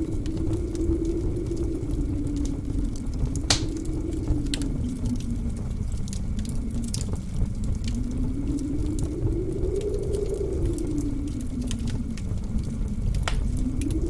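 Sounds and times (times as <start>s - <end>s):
low rumble: 0.0s - 14.0s
wind howling: 0.0s - 14.0s
wood fire crackling: 0.0s - 14.0s.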